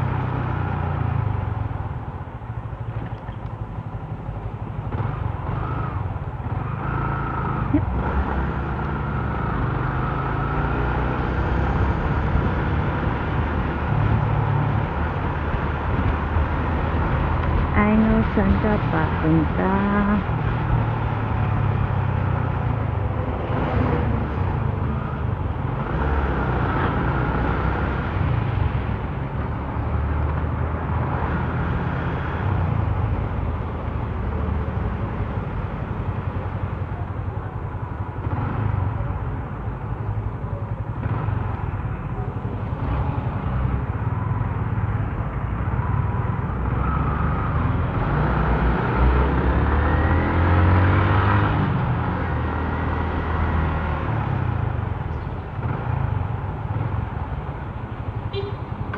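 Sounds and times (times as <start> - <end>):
road noise: 0.0 - 58.9.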